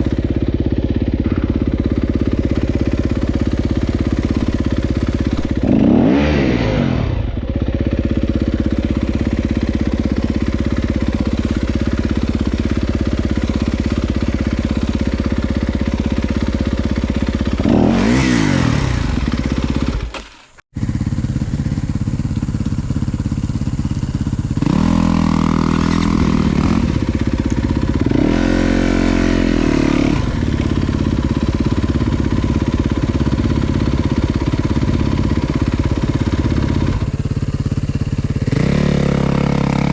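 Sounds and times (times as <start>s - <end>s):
dirt bike engine revving: 0.0s - 37.2s, 38.3s - 39.9s.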